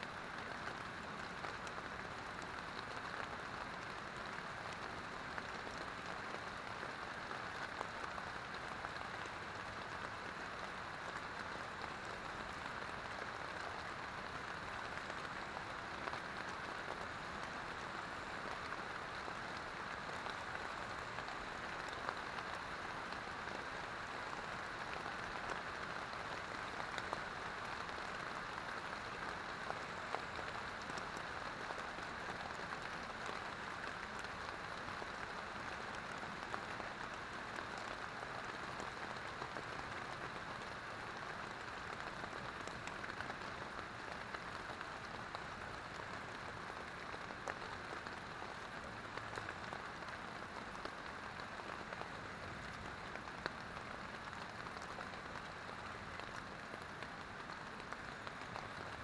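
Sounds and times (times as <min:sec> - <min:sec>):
rain falling on a tent: 0:00.0 - 0:59.0.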